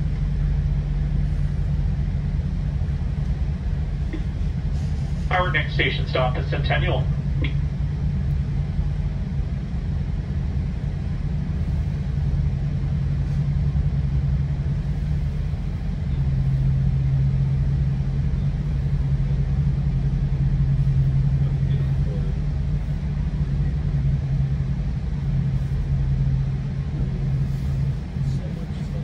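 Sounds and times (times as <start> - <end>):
train coach rumble and hum: 0.0 - 29.0.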